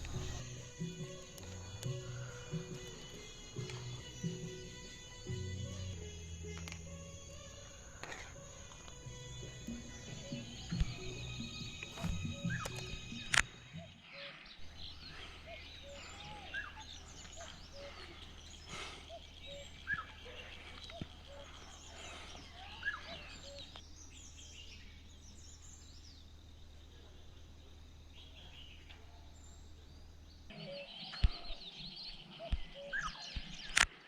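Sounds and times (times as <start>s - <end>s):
steady low hum: 0.0s - 33.0s
birds chirping and calling: 0.0s - 34.0s.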